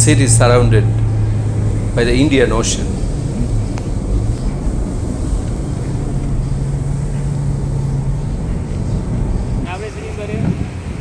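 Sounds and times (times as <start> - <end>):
steady low hum: 0.0 - 11.0
vehicle engine and road noise: 0.0 - 11.0.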